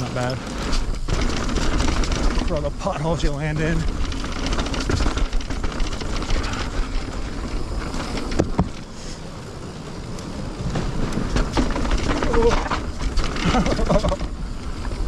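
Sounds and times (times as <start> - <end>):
wheels knocking onto wooden bridge: 0.0 - 9.0, 10.2 - 15.0
bike frame rattle: 0.0 - 15.0
bike tyres on dirt: 0.0 - 15.0.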